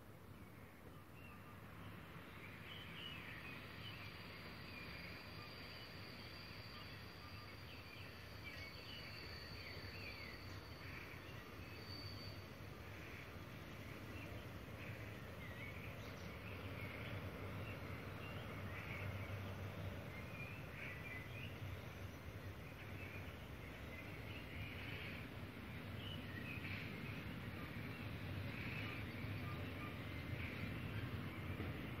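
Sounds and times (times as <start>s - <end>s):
approaching train rumble: 0.0s - 32.0s.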